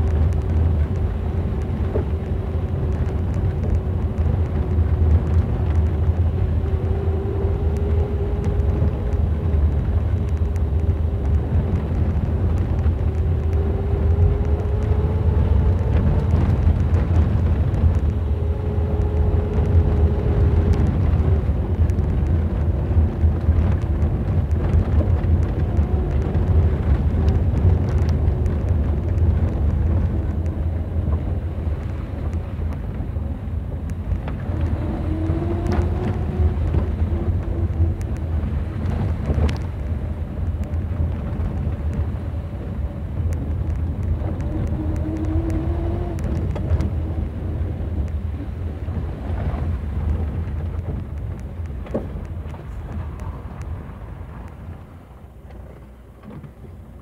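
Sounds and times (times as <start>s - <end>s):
transmission whine: 0.0s - 48.5s
car engine and road noise drone: 0.0s - 57.0s.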